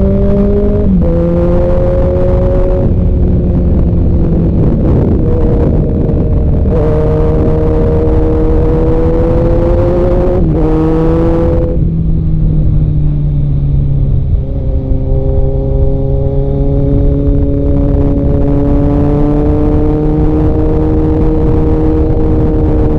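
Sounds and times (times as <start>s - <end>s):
motorcycle engine running loudly: 0.0s - 22.9s.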